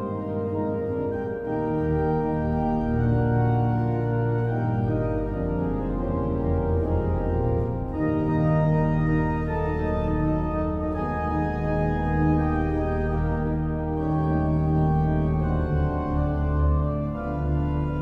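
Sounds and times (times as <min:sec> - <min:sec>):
pipe organ chords: 0:00.0 - 0:18.0.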